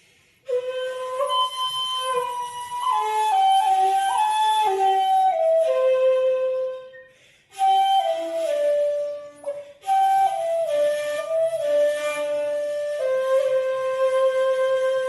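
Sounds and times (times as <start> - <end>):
slow flute melody: 0.0 - 15.0.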